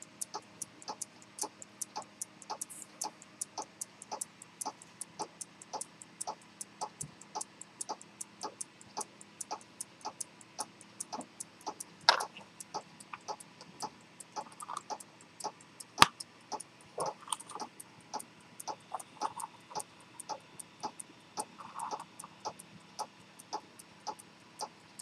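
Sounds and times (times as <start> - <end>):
pocket watch ticking: 0.0 - 25.0.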